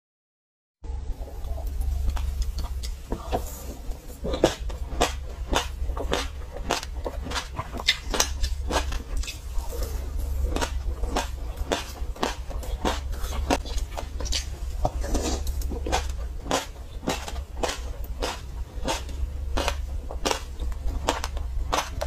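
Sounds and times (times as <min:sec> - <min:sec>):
steady low hum: 0:00.8 - 0:22.0
chewing crunchy seeds: 0:01.2 - 0:22.0.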